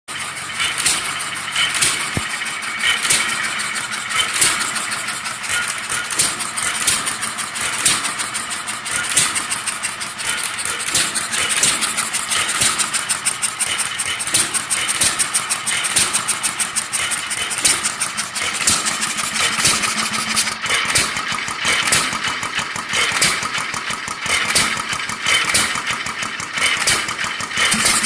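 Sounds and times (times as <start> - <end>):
engine mechanism clicking: 0.1 - 28.0.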